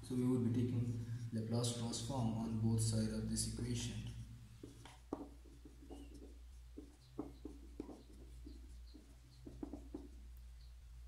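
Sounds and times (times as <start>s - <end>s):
steady low hum: 0.0s - 11.0s
marker pen on whiteboard: 1.2s - 11.0s.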